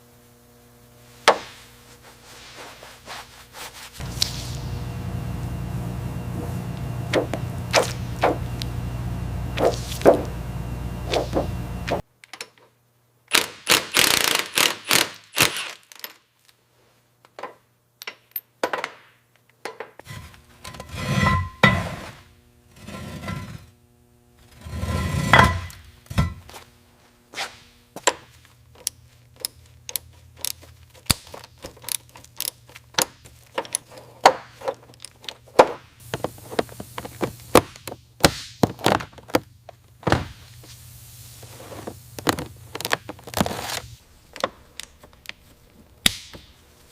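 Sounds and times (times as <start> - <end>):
steady low hum: 0.0 - 12.1, 20.0 - 46.9.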